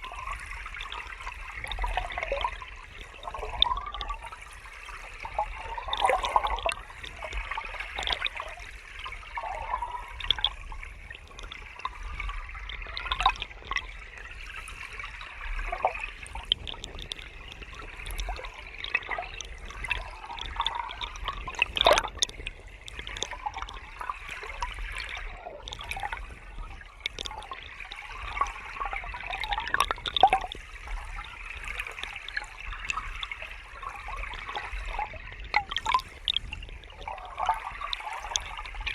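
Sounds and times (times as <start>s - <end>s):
water gurgling and splashing: 0.0s - 38.9s.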